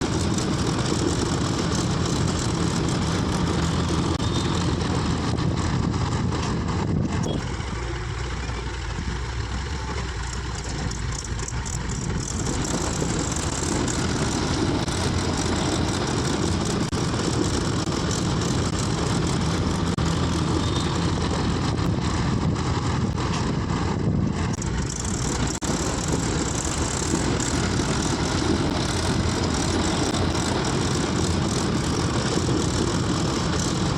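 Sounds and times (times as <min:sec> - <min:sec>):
heavy machinery diesel engine: 0:00.0 - 0:33.9.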